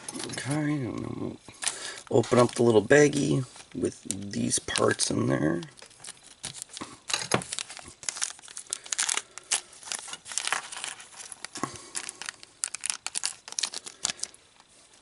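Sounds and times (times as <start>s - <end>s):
plastic bag crinkling and tearing: 1.5s - 14.7s.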